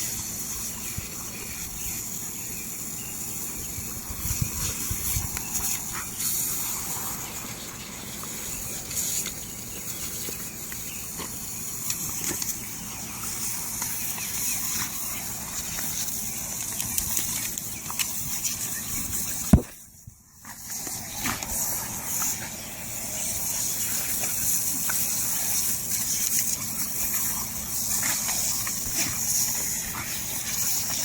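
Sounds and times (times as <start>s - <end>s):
lawn sprinkler spray hissing: 0.0s - 31.0s.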